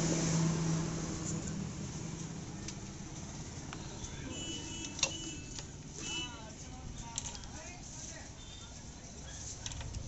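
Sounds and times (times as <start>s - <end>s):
vehicle noise: 0.0s - 10.0s.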